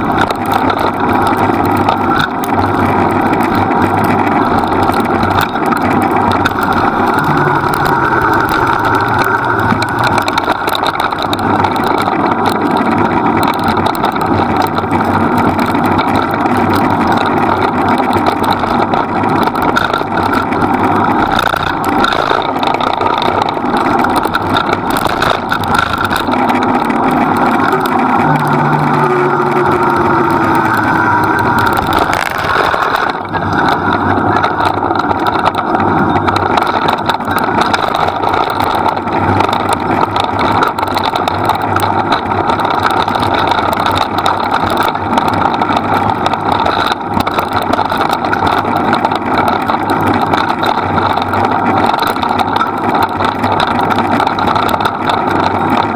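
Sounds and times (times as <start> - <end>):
rig rolling at speed: 0.0 - 55.9.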